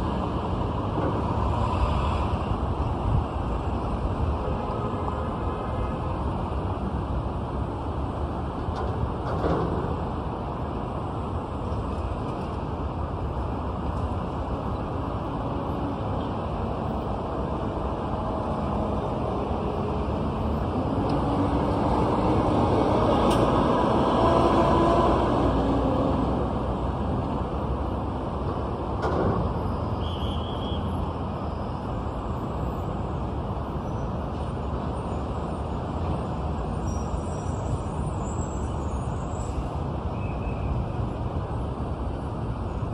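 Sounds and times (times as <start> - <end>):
heavy vehicle engine: 0.0 - 40.1
passing cars hum: 0.0 - 42.9.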